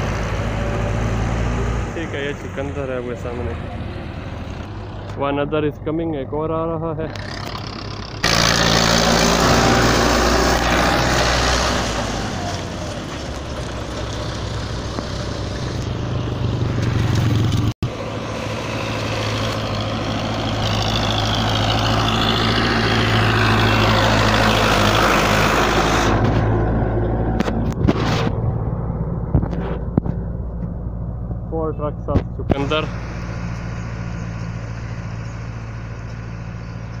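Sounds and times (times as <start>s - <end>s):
truck diesel engines droning: 0.0s - 37.0s.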